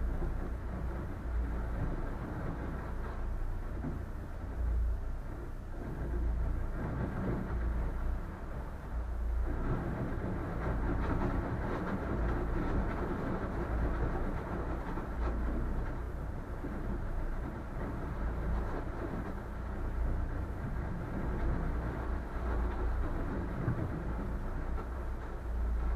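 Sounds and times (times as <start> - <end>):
boat engine rumble: 0.0 - 25.9.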